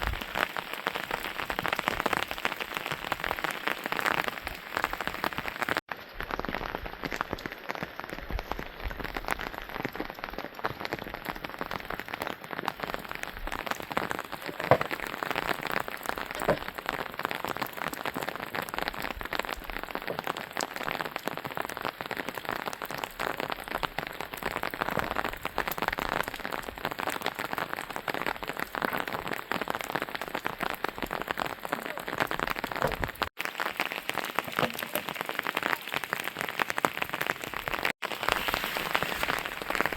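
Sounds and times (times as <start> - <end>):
rain drops striking hard surfaces: 0.0 - 39.9.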